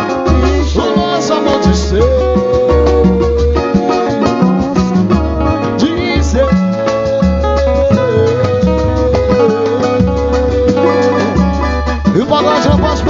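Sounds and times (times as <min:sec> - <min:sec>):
bass and percussion rhythm: 0:00.0 - 0:13.0
plucked strings: 0:00.0 - 0:13.0.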